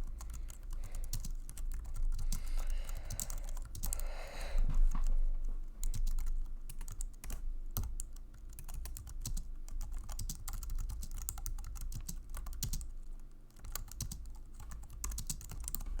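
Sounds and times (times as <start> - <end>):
keyboard typing clicks: 0.1 - 4.1, 5.8 - 12.9, 13.5 - 15.9.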